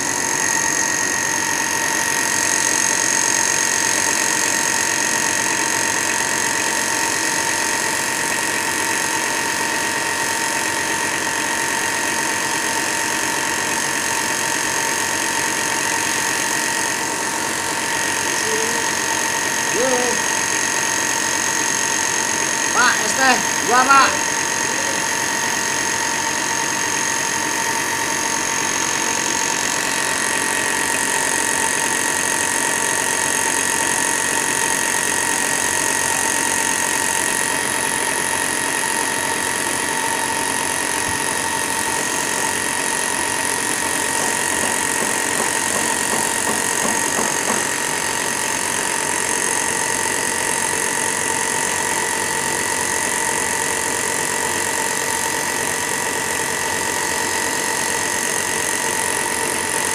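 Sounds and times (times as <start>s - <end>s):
machine whine: 0.0s - 59.9s.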